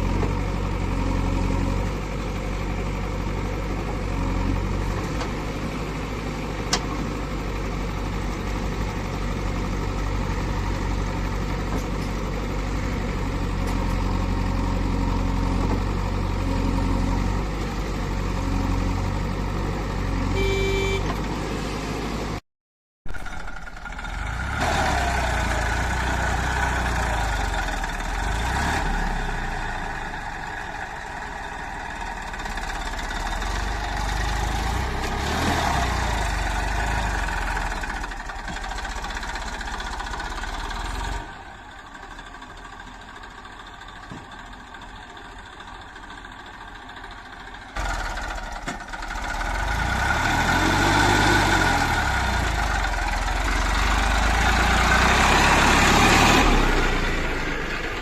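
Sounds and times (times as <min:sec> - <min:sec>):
diesel engine under load: 0:00.0 - 0:22.4, 0:23.1 - 0:58.0.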